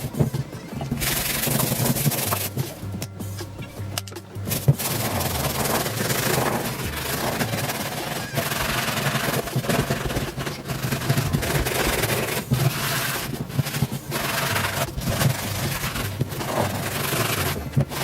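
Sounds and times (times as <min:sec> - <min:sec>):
brush scrubbing a sneaker: 0:00.0 - 0:03.5, 0:04.4 - 0:18.0.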